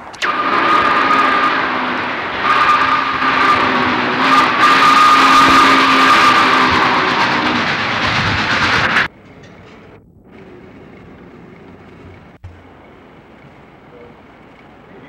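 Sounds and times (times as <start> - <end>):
train rushing past: 0.0 - 14.9.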